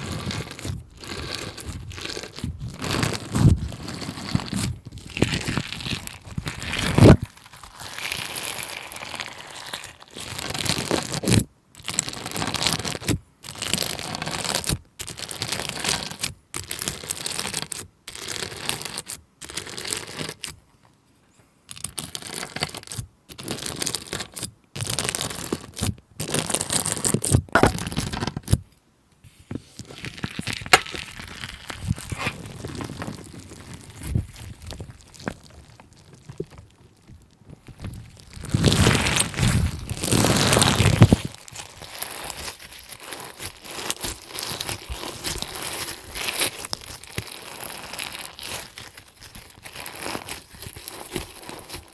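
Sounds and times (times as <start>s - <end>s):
slime crackling and crinkling: 0.0s - 20.5s, 29.6s - 51.9s.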